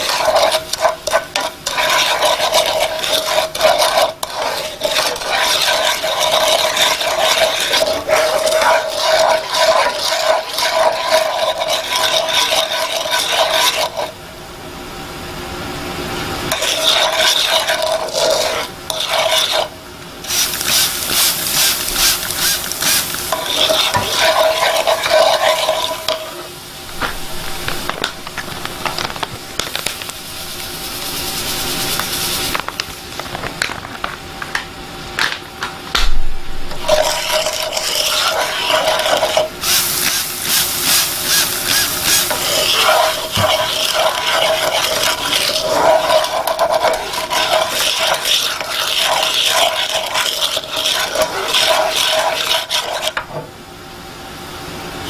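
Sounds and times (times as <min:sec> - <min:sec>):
utensil stirring and scraping a pan: 0:00.0 - 0:14.2, 0:16.4 - 0:34.1, 0:36.5 - 0:53.4.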